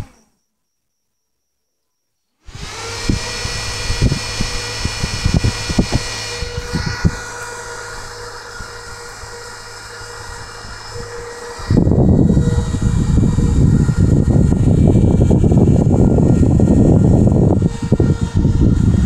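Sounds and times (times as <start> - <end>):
fan motor whine: 0.0 - 19.0
low rush of air: 2.5 - 19.0.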